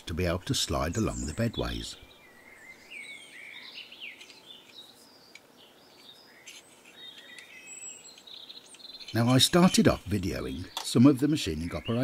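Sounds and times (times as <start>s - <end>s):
birds singing faintly: 0.0s - 12.0s.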